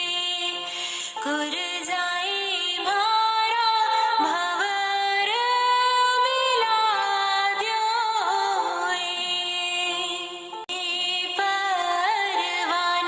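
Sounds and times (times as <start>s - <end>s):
woman singing folk song: 0.0s - 13.0s.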